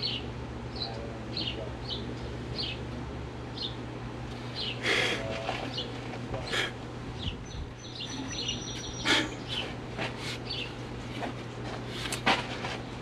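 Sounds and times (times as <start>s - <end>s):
birds chirping: 0.0s - 12.3s
steady low hum: 0.0s - 13.0s.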